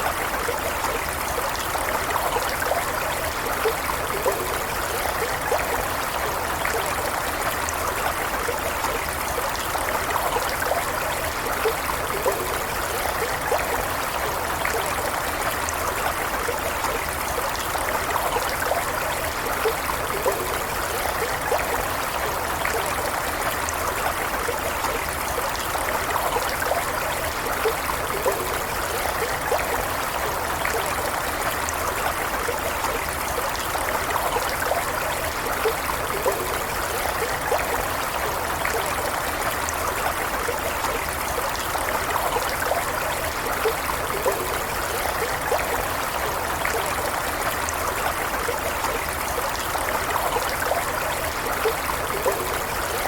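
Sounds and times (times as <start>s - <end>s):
stream trickling over stones: 0.0s - 53.0s.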